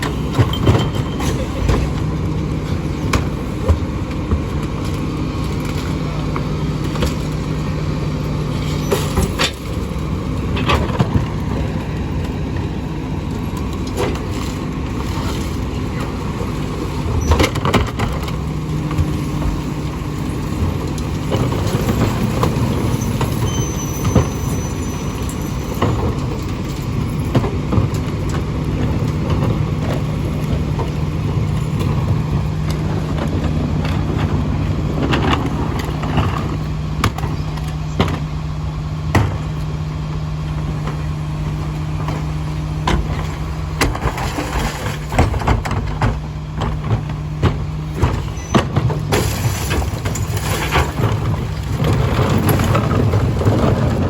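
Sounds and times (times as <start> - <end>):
garbage truck engine running: 0.0 - 54.0.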